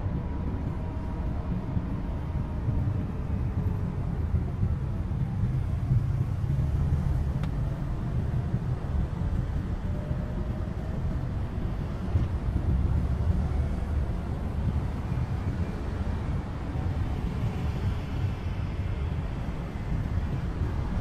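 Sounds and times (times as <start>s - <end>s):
van engine and tyres rumbling: 0.0s - 21.0s.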